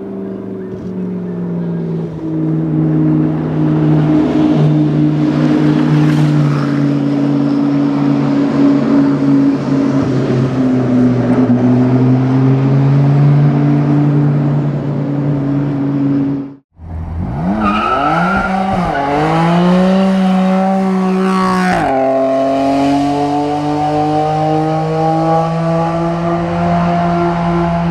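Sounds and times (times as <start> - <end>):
race car engine revving: 0.0 - 27.9.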